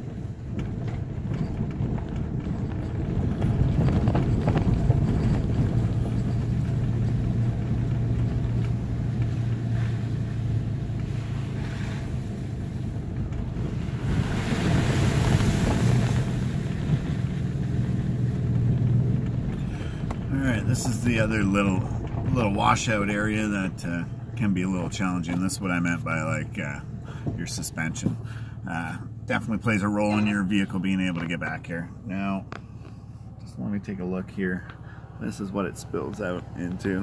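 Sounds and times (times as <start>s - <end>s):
car engine running: 0.0s - 37.0s
rumble and knocks from rough track: 0.0s - 37.0s.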